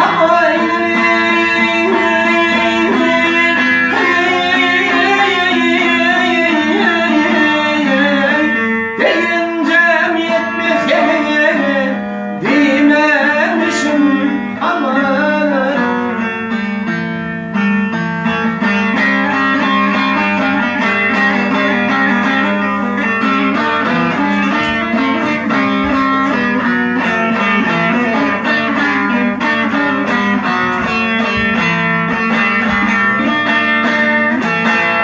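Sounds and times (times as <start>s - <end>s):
fast plucked-string melody: 0.0s - 35.0s.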